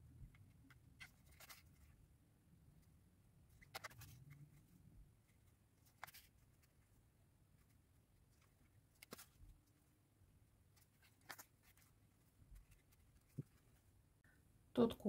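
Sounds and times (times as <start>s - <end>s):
needle and yarn rustling: 0.2s - 14.2s.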